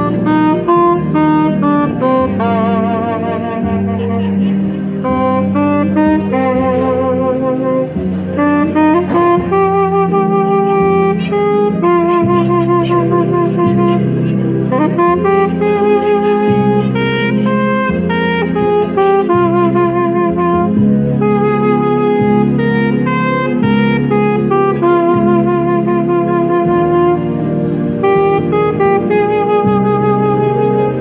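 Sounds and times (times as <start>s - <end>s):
low chordal accompaniment: 0.0s - 31.0s
saxophone playing a tune: 0.0s - 31.0s.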